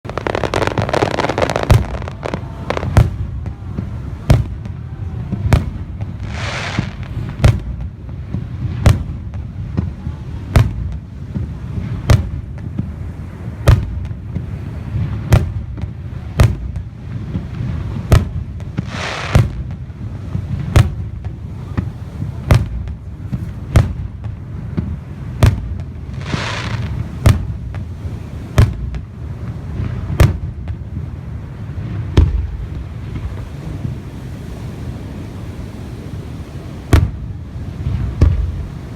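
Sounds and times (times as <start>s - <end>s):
fireworks bursting with booms: 0.0s - 38.9s
fireworks hissing crackle: 0.0s - 38.9s.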